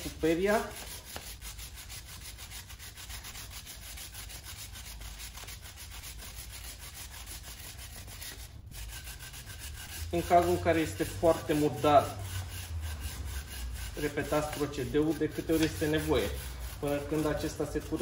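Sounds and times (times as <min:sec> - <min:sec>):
brush scrubbing a wet chain: 0:00.0 - 0:18.0.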